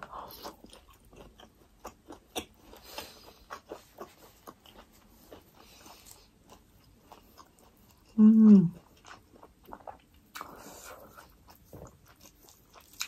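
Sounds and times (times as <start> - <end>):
chewing with wet mouth clicks: 0.0 - 13.0.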